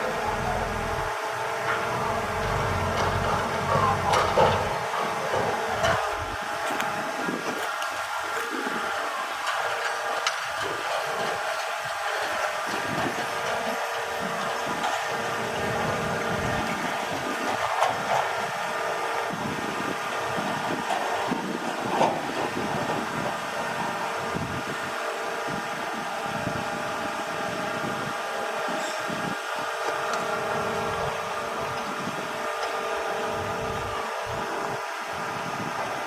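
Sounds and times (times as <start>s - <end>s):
construction machine engine running: 0.0s - 36.0s.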